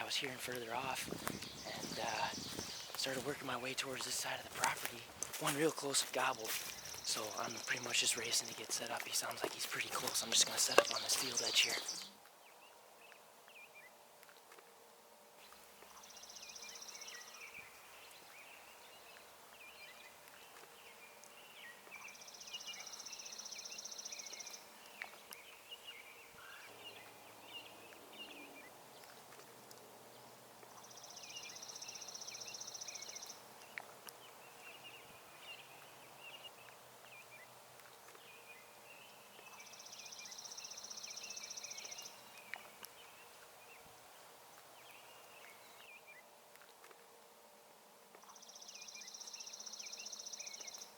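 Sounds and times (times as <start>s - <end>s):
birds chirping: 0.0s - 14.0s, 15.4s - 46.3s, 48.2s - 50.9s.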